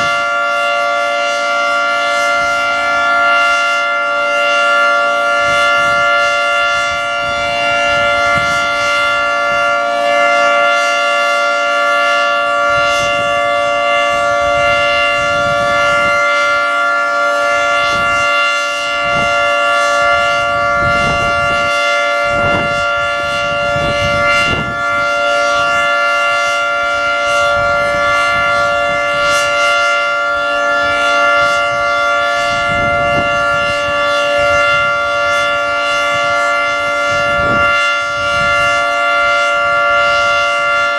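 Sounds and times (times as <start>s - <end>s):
outdoor warning siren chord: 0.0s - 40.9s.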